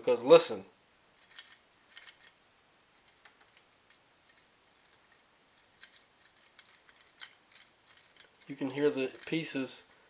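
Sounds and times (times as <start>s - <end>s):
loose pieces rattling in plastic: 1.2s - 2.4s, 3.0s - 10.0s.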